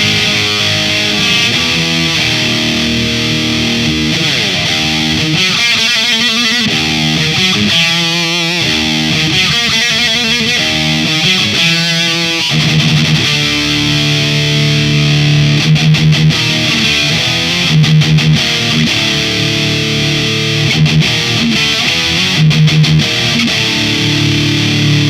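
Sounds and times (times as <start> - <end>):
distorted electric guitar: 0.0 - 25.0.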